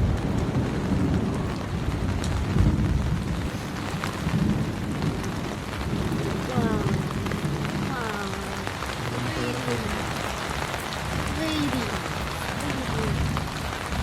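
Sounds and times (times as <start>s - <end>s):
low rolling thunder: 0.0s - 14.0s
rain on a tent roof: 0.0s - 14.0s.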